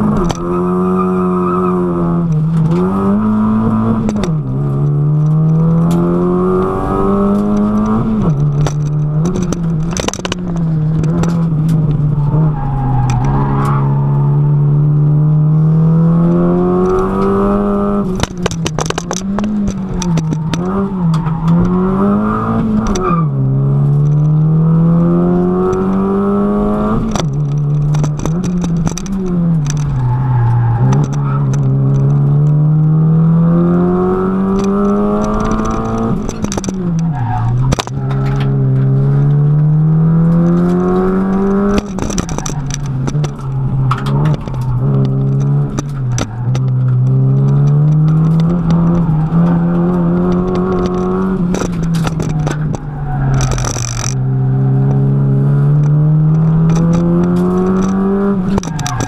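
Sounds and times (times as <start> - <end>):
car engine revving in cabin: 0.0 - 59.0.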